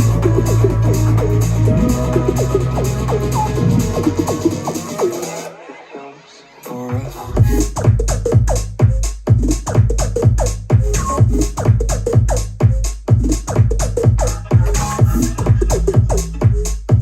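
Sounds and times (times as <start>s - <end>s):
electronic dance music: 0.0s - 17.0s.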